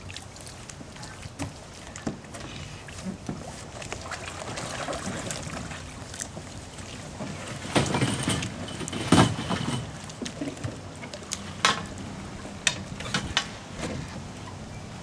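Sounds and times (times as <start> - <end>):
sailboat hull knocks and clatter: 1.3 - 14.5.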